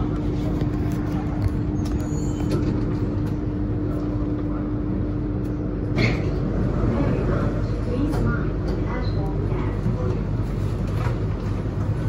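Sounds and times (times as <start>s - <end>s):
metro train rumbling in tunnel: 0.0s - 12.0s
steady hum: 0.0s - 12.0s.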